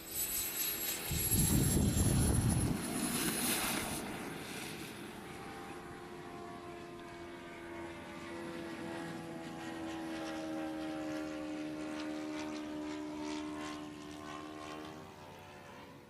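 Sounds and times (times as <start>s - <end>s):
model jet turbine whining: 0.0s - 16.0s.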